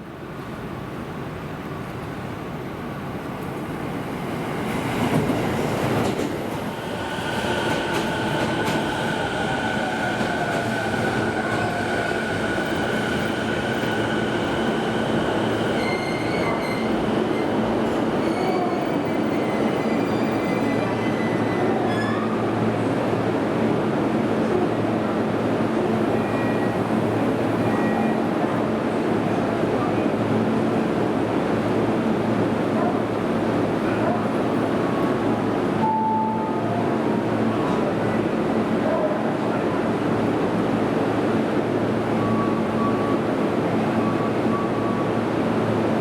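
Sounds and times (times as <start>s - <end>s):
subway train rumble: 0.0s - 46.0s.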